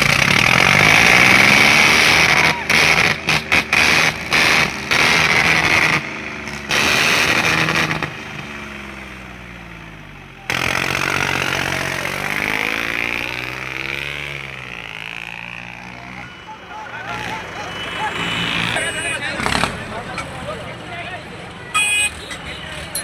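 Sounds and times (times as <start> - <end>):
heavy vehicle engine revving: 0.0 - 23.0
loud rough noise: 0.0 - 23.0.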